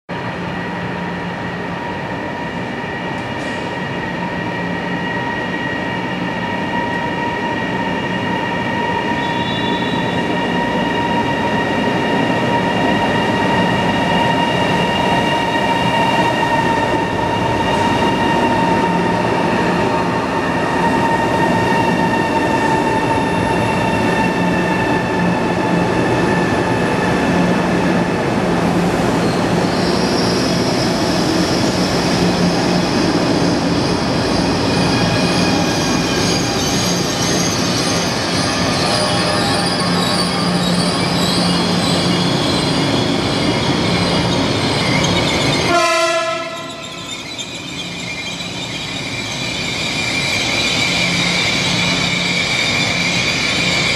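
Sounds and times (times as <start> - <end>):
electric train whine: 0.1 - 53.9.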